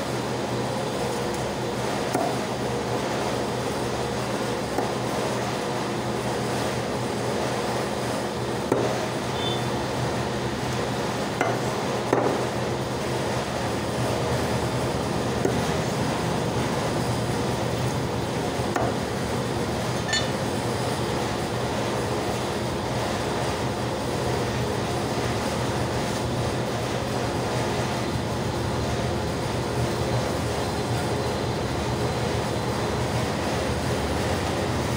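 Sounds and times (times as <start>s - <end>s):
machine drone with low hum: 0.0s - 34.9s.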